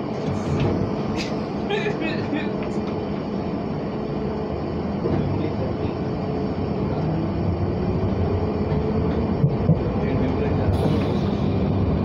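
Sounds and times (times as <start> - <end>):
train rumble from inside carriage: 0.0 - 12.0.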